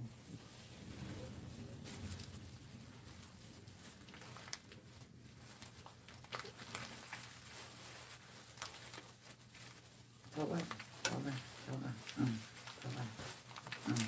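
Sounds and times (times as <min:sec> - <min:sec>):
food rolling handling sounds: 0:00.0 - 0:14.0.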